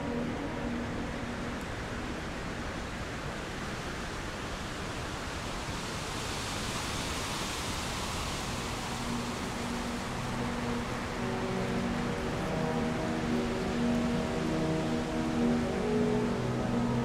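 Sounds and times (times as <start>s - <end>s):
faint sustained musical tones: 0.0s - 4.4s, 7.8s - 17.0s
steady rain: 0.0s - 17.0s.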